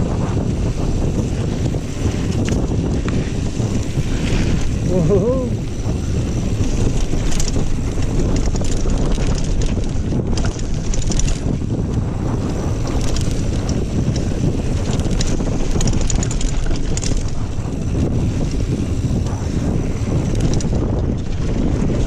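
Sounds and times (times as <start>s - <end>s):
bike tyres rattling and crunching: 0.0s - 22.0s
wind buffeting microphone: 0.0s - 22.0s.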